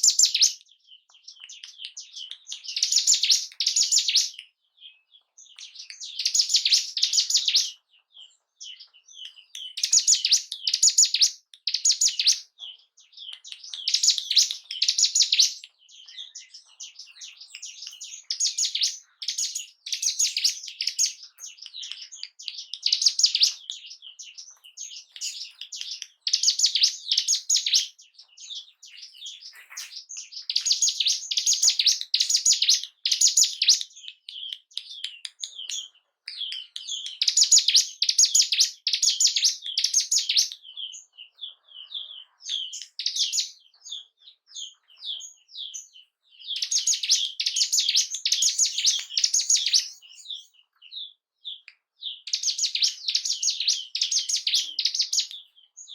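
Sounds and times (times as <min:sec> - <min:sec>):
bird singing high chirping notes: 0:00.0 - 0:55.9.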